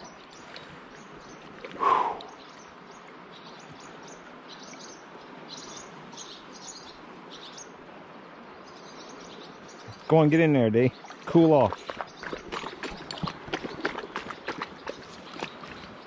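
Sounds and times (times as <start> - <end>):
small birds chirping: 0.0 - 7.8, 8.5 - 16.0
flowing river water: 0.0 - 16.0.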